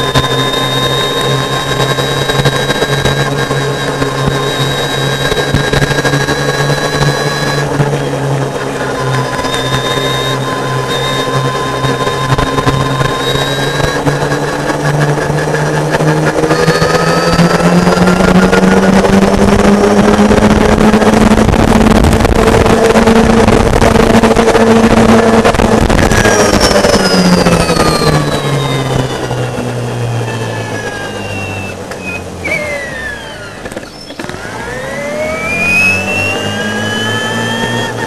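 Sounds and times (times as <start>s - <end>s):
electric motor whining: 0.0s - 38.0s
loud rushing noise: 0.0s - 38.0s.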